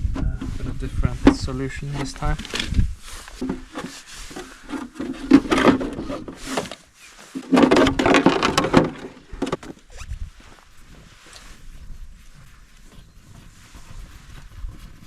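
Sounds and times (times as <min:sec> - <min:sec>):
rustling scraping and knocking: 0:00.0 - 0:15.0.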